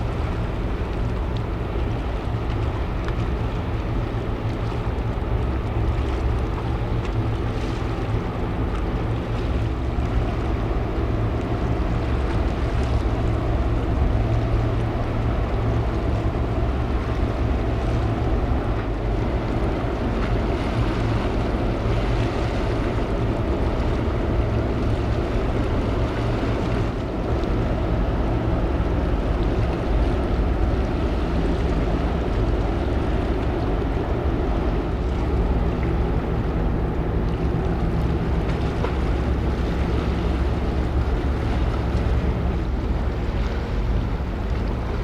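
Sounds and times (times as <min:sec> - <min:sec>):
ship machinery deep rumble: 0:00.0 - 0:45.0.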